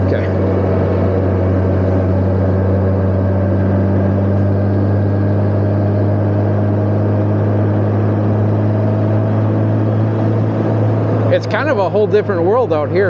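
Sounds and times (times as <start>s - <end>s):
motorcycle engine humming: 0.0s - 13.0s.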